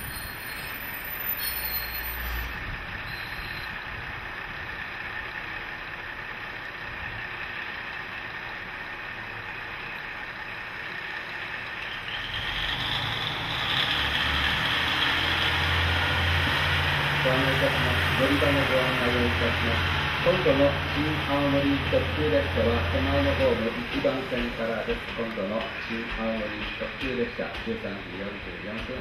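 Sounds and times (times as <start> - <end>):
diesel railcar engine idling: 0.0 - 12.6, 15.0 - 29.0.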